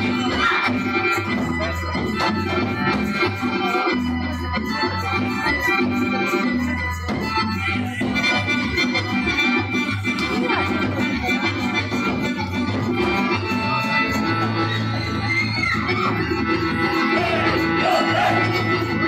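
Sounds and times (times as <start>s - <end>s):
accordion: 0.0s - 19.0s
double bass: 0.0s - 19.0s.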